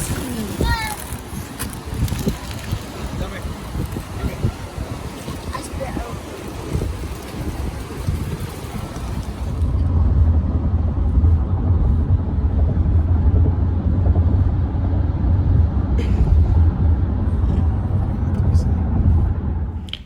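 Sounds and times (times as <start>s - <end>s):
deep rumble: 0.0s - 20.0s
wind noise on microphone: 0.0s - 20.0s.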